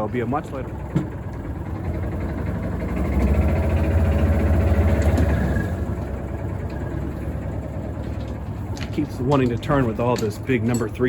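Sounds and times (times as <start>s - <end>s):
farm machine engine under load: 0.0s - 11.0s.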